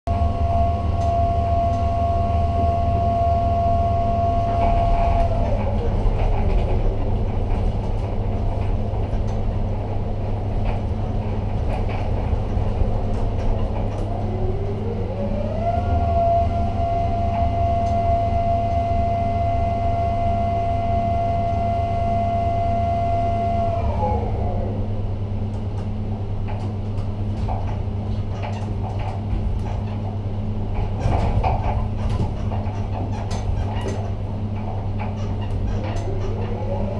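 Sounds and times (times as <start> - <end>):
crane motor whine: 0.1 - 36.9
low electric hum: 0.1 - 36.9.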